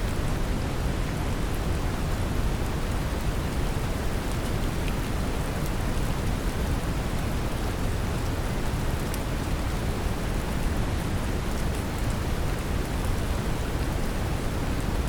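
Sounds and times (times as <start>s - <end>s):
brown noise rumbling hiss: 0.0s - 15.0s
gentle rain patter: 0.0s - 15.0s.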